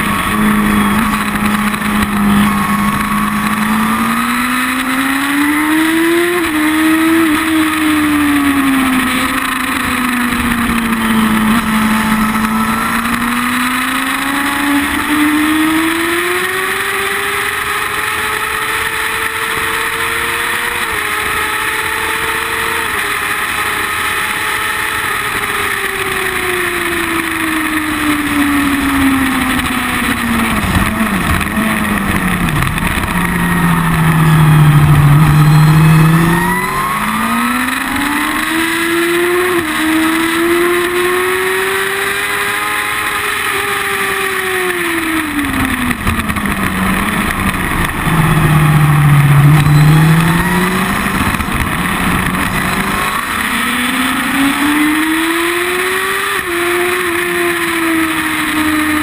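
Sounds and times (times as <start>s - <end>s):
motorcycle engine and exhaust: 0.0s - 59.0s.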